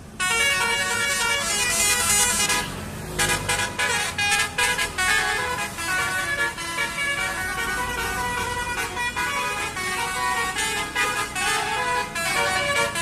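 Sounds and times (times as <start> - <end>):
musical air horn playing a tune: 0.2 - 13.0.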